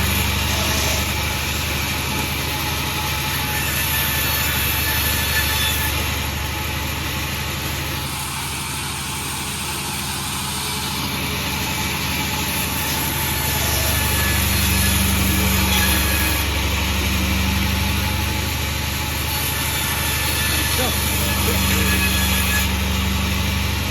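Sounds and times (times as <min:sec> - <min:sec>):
sawmill engine hum: 0:00.0 - 0:23.9.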